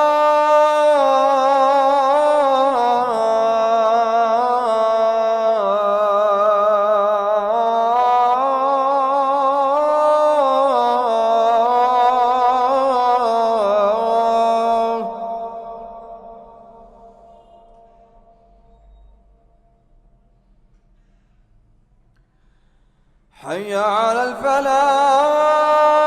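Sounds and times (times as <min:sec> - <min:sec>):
man chanting call to prayer: 0:00.0 - 0:18.5, 0:23.4 - 0:26.0.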